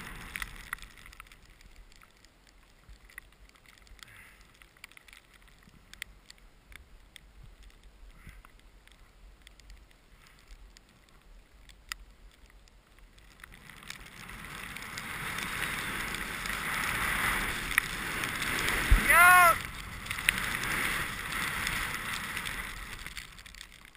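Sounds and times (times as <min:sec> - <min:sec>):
skis sliding over snow: 0:00.0 - 0:23.9.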